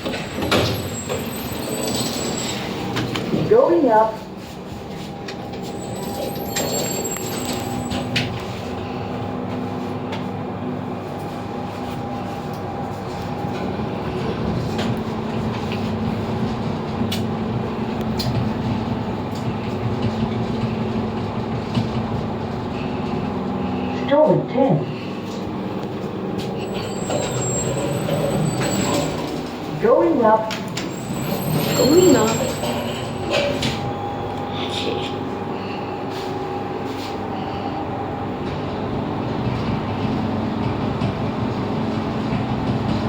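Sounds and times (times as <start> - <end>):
lift rumbling with low hum: 0.0 - 43.0.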